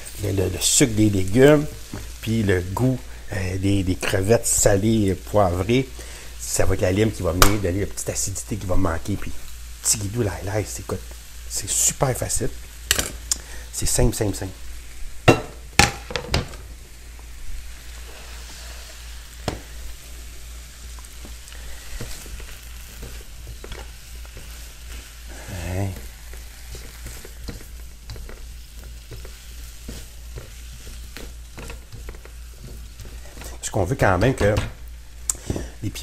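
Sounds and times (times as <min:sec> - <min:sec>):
vegetables sizzling in wok: 0:00.0 - 0:36.0.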